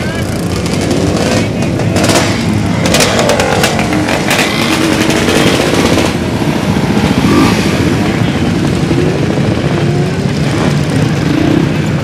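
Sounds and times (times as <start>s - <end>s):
motorcycle engines idling and revving: 0.0s - 12.0s.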